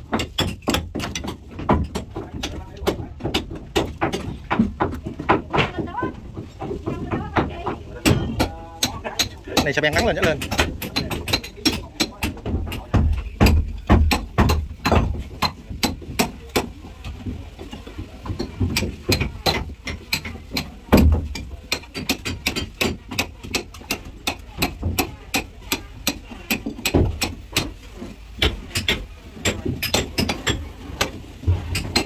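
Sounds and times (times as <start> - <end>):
tools knocking on wooden hull: 0.0 - 32.0.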